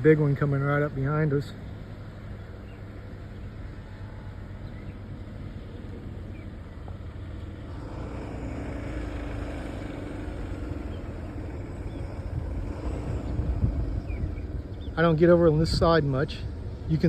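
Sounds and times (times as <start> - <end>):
large vehicle approaching: 0.0 - 17.0.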